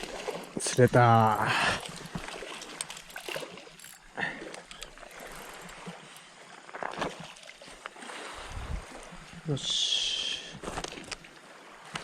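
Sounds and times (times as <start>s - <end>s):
seawater splashing at shoreline: 0.0s - 12.0s.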